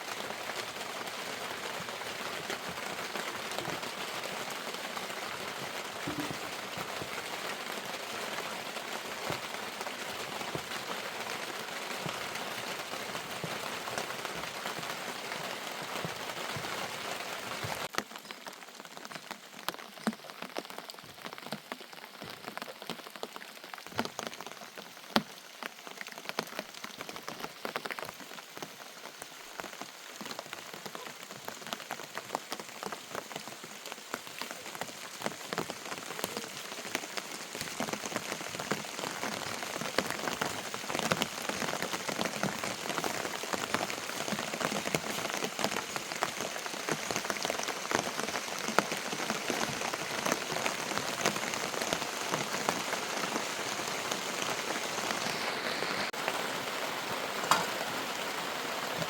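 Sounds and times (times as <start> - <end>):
rain falling: 0.0 - 59.0
raindrops tapping: 0.0 - 59.0.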